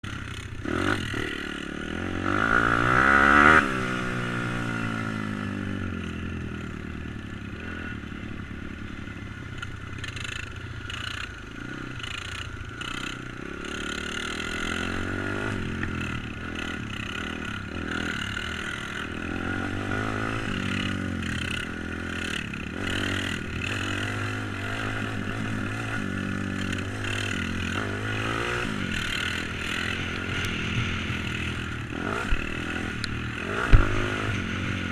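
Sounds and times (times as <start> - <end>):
pit bike engine revving: 0.1 - 6.7, 10.0 - 34.9.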